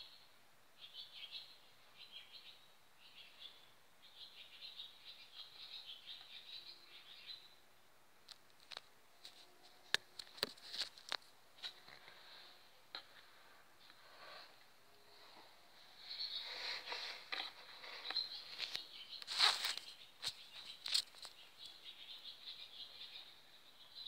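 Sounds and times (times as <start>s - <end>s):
birds chirping: 0.0s - 7.9s, 9.4s - 24.0s.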